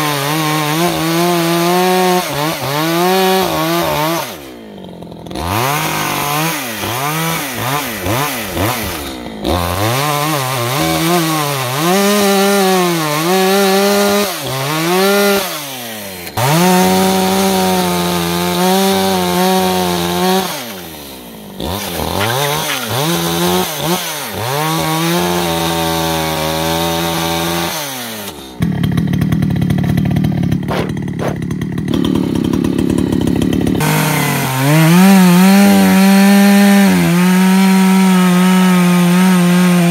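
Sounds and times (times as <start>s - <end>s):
chainsaw revving cutting wood: 0.0s - 39.9s.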